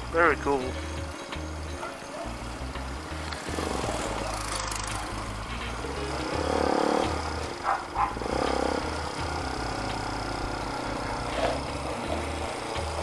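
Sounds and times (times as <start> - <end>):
motorcycle exhaust rumble: 0.9 - 13.0.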